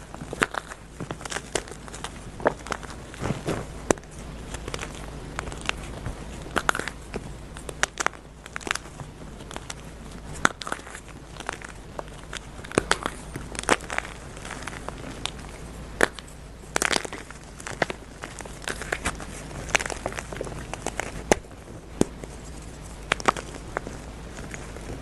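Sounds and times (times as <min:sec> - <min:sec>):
chalk crunching and crackling: 0:00.0 - 0:25.0.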